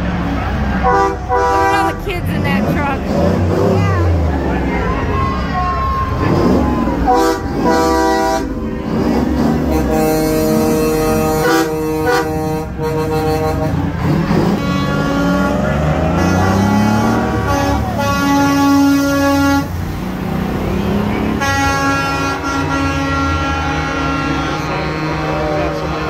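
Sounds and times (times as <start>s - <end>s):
diesel engines rumbling: 0.0s - 26.0s
truck air horns blowing: 0.7s - 2.8s, 4.8s - 20.0s, 21.2s - 26.0s.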